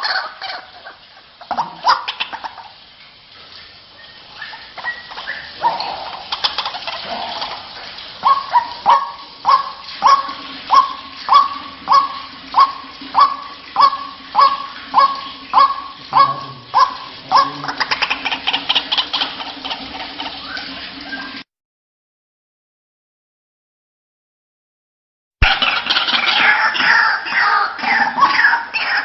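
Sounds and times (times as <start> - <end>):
waterhen calling: 0.0 - 21.4, 25.4 - 29.0.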